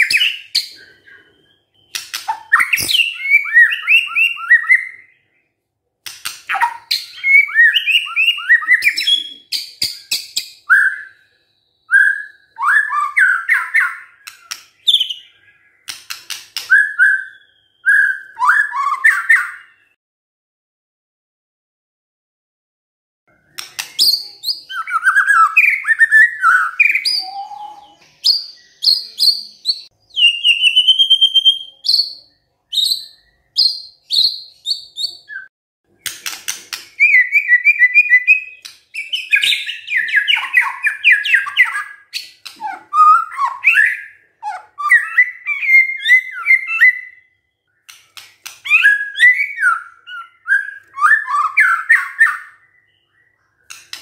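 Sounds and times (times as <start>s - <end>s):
songbird singing varied song: 0.0s - 20.0s, 23.4s - 54.0s.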